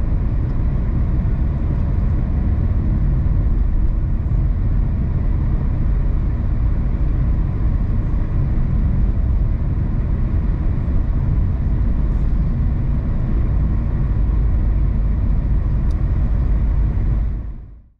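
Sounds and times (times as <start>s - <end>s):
car engine drone: 0.0s - 17.9s.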